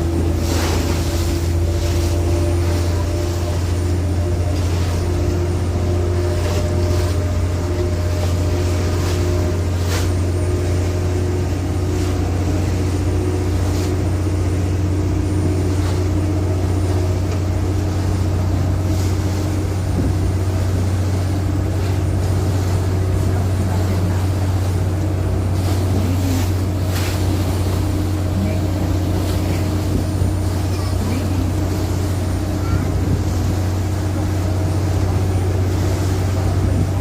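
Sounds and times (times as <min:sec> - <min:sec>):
engine droning: 0:00.0 - 0:37.0.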